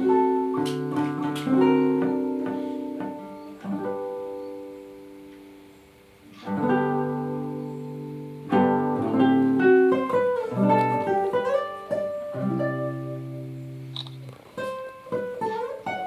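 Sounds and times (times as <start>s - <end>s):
solo classical guitar: 0.0s - 16.0s.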